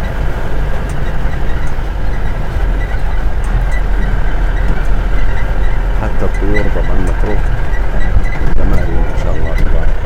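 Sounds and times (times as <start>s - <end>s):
vehicle engine low rumble: 0.0s - 10.0s.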